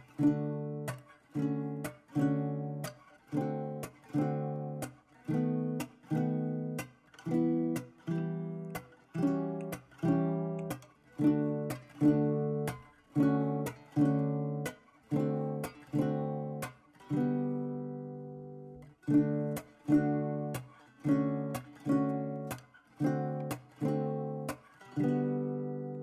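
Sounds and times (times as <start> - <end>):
guitar strumming chords: 0.0 - 26.0.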